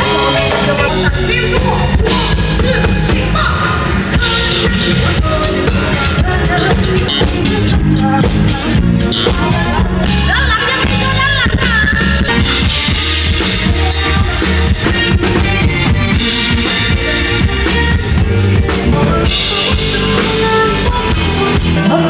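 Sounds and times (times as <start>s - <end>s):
drum kit: 0.0s - 22.0s
heavy bass: 0.0s - 22.0s
live band music through speakers: 0.0s - 22.0s.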